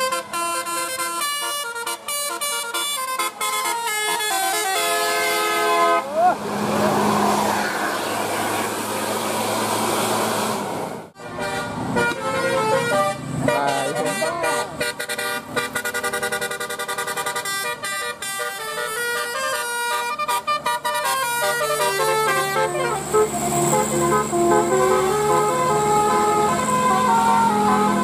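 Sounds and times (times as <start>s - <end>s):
bus horn playing a tune: 0.0s - 6.2s, 11.2s - 28.0s.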